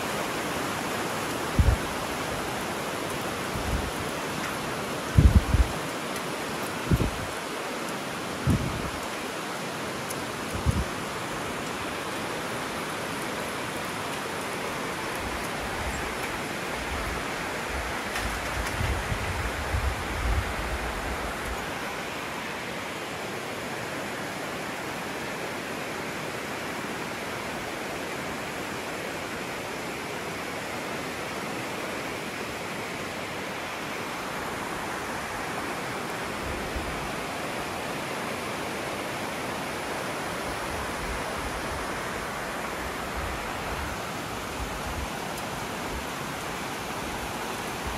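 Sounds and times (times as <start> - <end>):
river rushing over rapids: 0.0 - 47.9.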